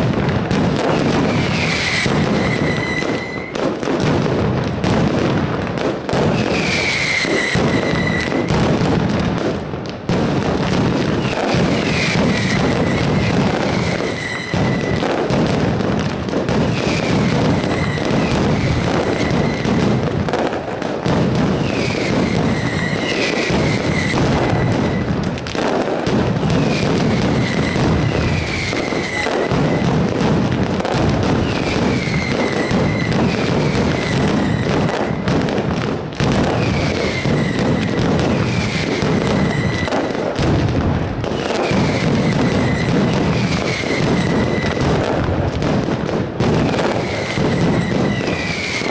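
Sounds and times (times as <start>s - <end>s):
firecrackers exploding rapidly: 0.0s - 48.9s.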